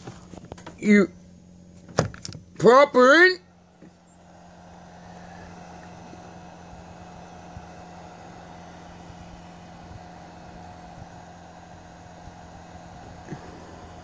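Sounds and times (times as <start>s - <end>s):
faint whine: 0.0s - 14.0s
low hum: 0.0s - 14.0s.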